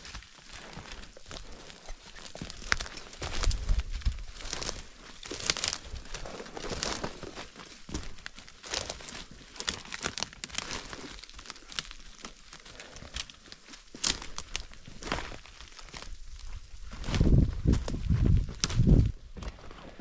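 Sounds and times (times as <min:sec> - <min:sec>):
footsteps through dry leaves: 0:00.0 - 0:19.3.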